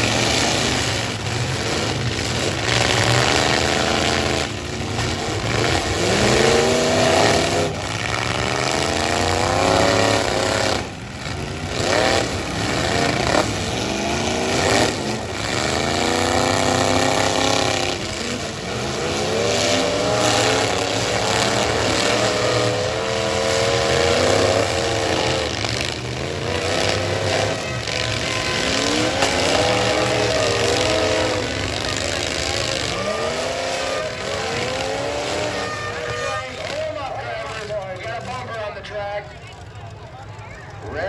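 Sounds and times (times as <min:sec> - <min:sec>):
truck engines revving hard: 0:00.0 - 0:41.0.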